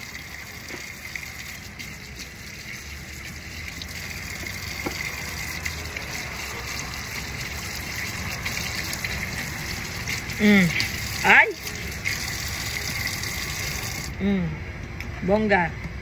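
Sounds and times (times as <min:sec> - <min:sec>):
hands washing under water: 0:00.0 - 0:14.2
tap water running: 0:00.0 - 0:14.2.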